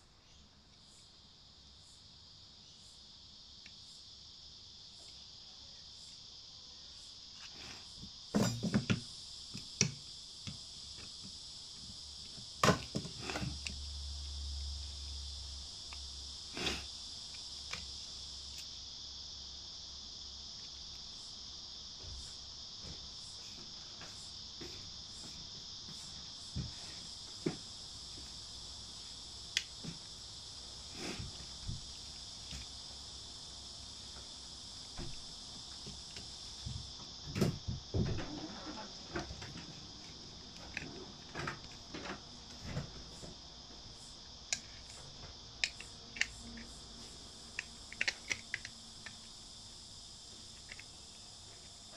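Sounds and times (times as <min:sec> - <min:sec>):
steady high-pitched hiss: 0:00.0 - 0:51.9.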